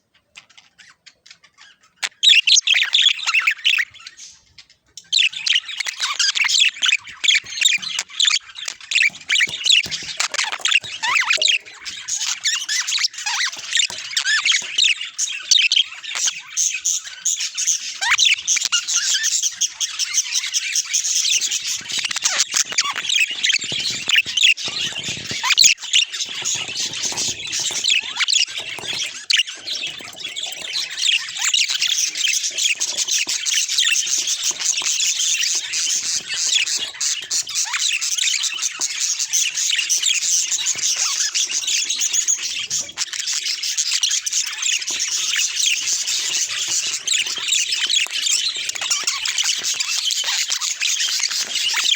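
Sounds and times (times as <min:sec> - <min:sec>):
budgerigars chattering: 0:00.0 - 0:51.9.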